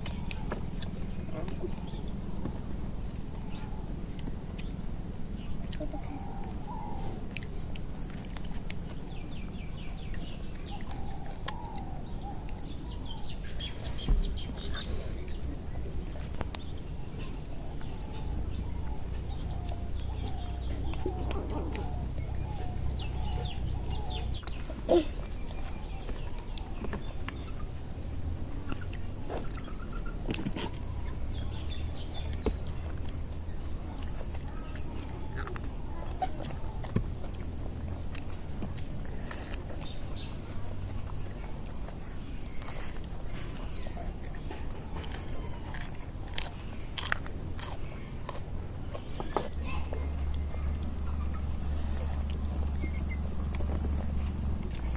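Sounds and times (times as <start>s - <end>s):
steady low hum: 0.0s - 54.9s
chickens clucking: 5.3s - 54.9s.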